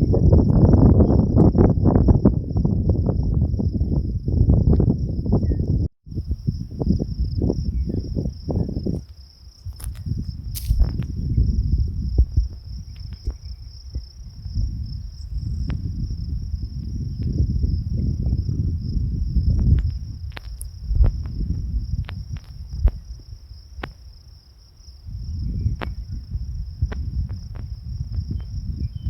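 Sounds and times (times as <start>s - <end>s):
insects droning: 0.0s - 29.0s
wind buffeting microphone: 0.0s - 29.0s.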